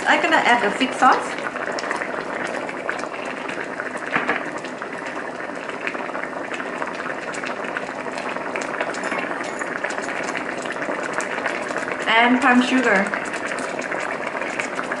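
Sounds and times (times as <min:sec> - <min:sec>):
curry boiling and bubbling: 0:00.0 - 0:15.0.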